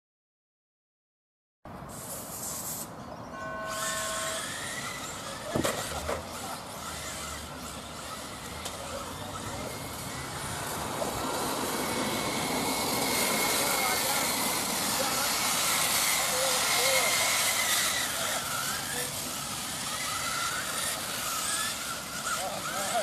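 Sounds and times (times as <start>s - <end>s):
rc car motors and tyres hissing: 1.8s - 23.0s.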